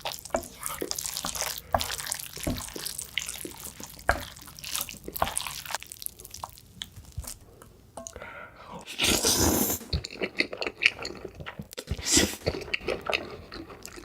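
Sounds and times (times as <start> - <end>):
person chewing noodles: 0.0 - 7.8, 8.8 - 14.0.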